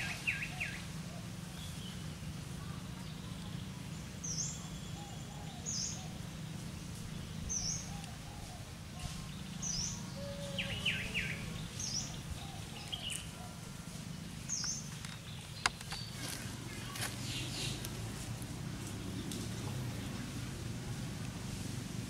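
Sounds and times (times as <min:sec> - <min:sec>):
birds calling: 0:00.0 - 0:21.1
steady low hum: 0:00.0 - 0:22.0.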